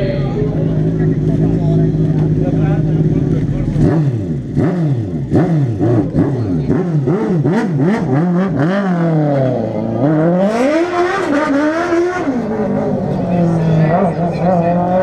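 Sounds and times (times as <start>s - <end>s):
engine revving in throttle blips: 0.0s - 15.0s.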